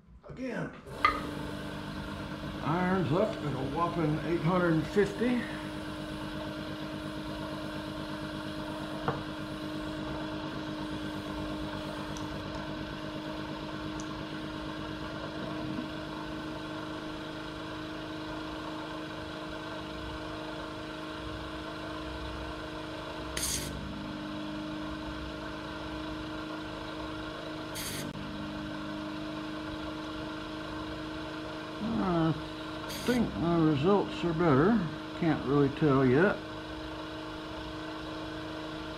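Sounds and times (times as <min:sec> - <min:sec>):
vacuum pump humming: 0:00.8 - 0:38.9.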